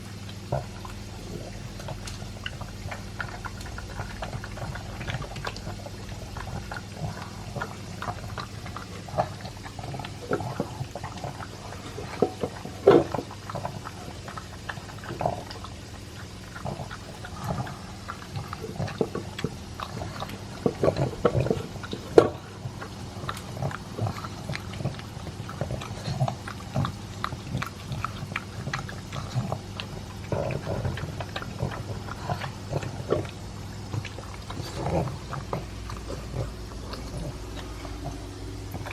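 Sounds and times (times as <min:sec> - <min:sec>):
dog crunching dry kibble: 0:00.1 - 0:38.9.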